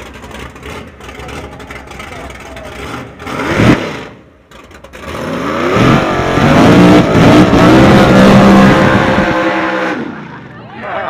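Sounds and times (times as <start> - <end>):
truck engine at full throttle: 0.0 - 11.0.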